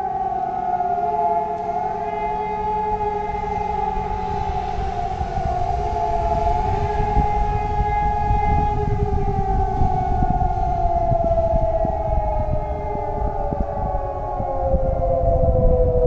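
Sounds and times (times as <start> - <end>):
warning siren long tone: 0.0 - 16.0.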